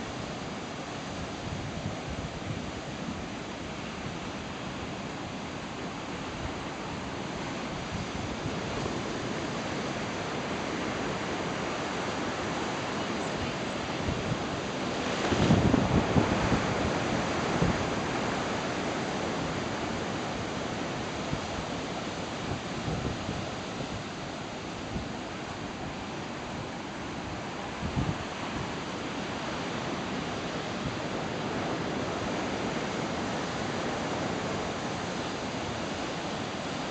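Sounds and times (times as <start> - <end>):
ocean waves breaking: 0.0 - 36.9
wind on microphone: 6.1 - 36.9.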